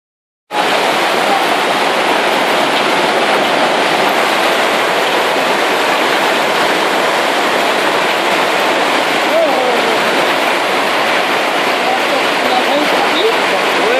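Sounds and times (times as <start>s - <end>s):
hail and heavy rain pelting: 0.5s - 13.9s.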